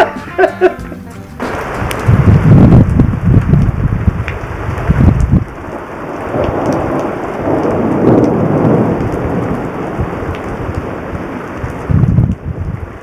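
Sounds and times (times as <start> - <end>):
steady rain falling: 0.0 - 13.0
rolling thunder: 1.4 - 13.0.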